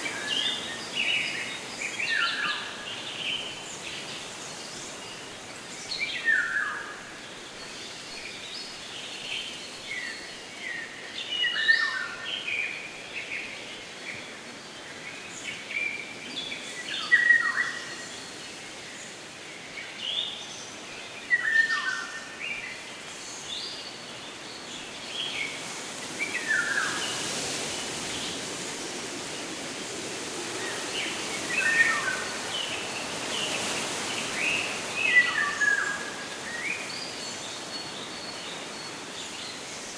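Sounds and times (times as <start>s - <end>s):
outdoor background hiss: 0.0s - 39.9s
songbird singing: 0.0s - 39.9s.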